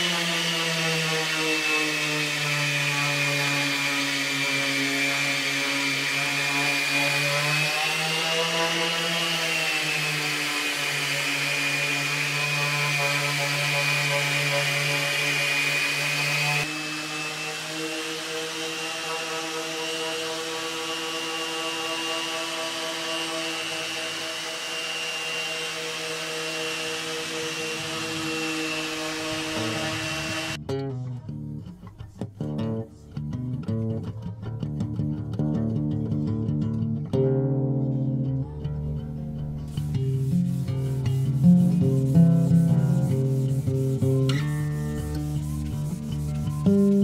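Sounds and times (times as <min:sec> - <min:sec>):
orbital sander running on wood: 0:00.0 - 0:30.6, 0:39.7 - 0:47.0.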